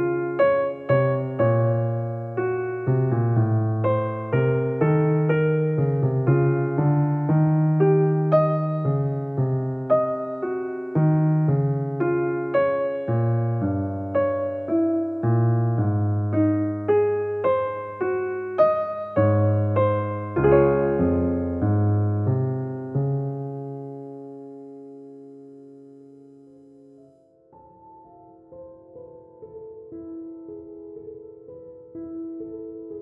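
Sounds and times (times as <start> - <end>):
electric piano music: 0.0 - 33.0.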